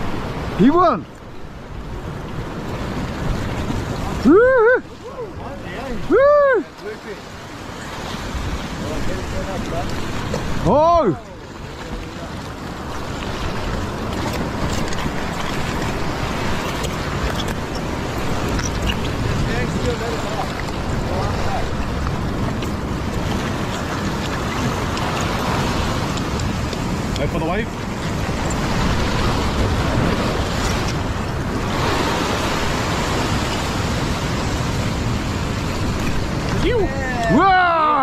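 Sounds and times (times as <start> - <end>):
waves washing over rocks: 0.0 - 38.0
wind on microphone: 7.3 - 38.0.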